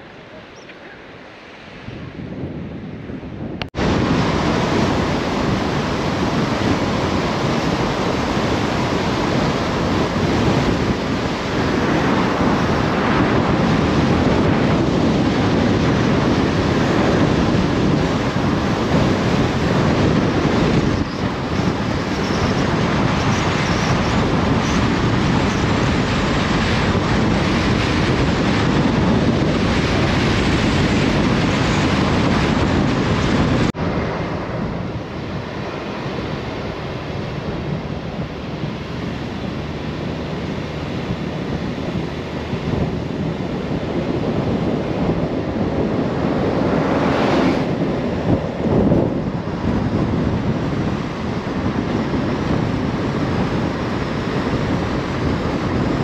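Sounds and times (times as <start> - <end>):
surf washing: 0.0 - 56.0
wind buffeting microphone: 0.0 - 56.0.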